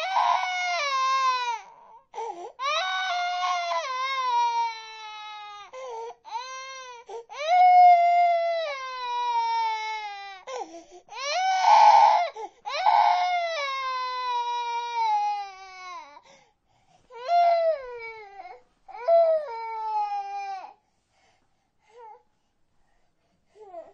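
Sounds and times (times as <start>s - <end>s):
baby crying: 0.0s - 16.2s, 17.2s - 20.8s.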